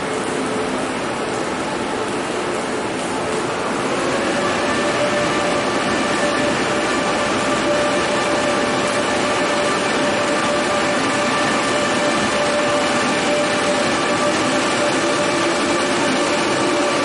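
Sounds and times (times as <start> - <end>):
railway equipment humming: 0.0 - 17.0.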